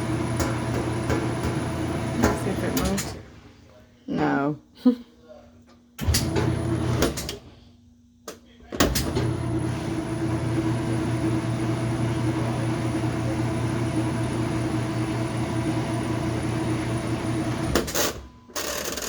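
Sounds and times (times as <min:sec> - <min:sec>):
washing machine hum: 0:00.0 - 0:05.1, 0:06.0 - 0:19.0.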